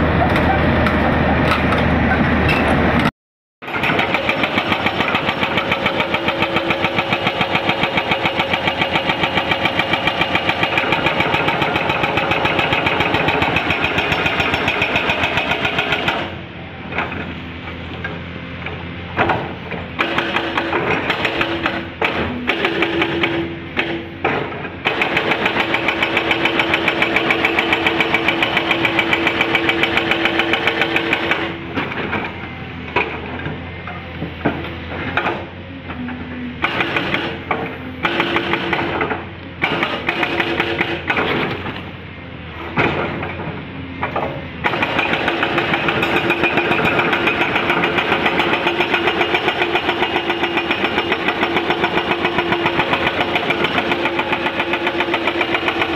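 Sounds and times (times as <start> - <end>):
excavator engine running: 0.0 - 55.9
hydraulic breaker hammering rock: 3.6 - 55.9.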